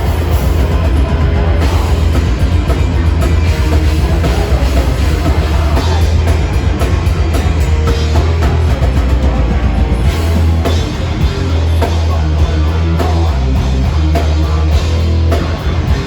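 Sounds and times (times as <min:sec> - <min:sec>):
distorted electric guitars: 0:00.0 - 0:16.0
fast dense drumming: 0:00.0 - 0:16.0.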